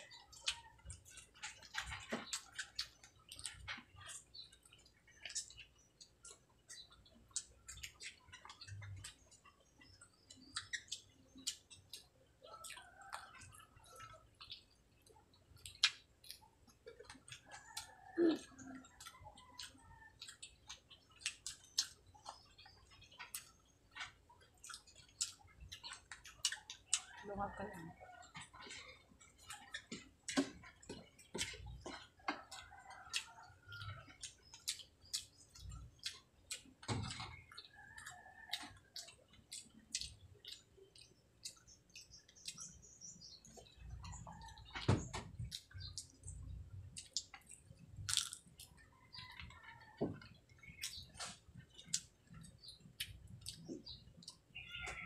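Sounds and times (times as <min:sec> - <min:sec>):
wet chewing mouth sounds: 0:00.0 - 0:55.0.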